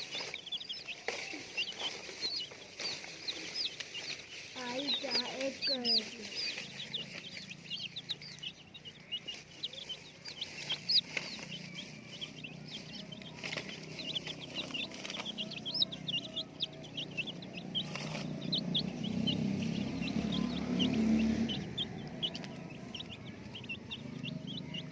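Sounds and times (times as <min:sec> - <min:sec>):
baby chicks peeping: 0:00.0 - 0:24.9.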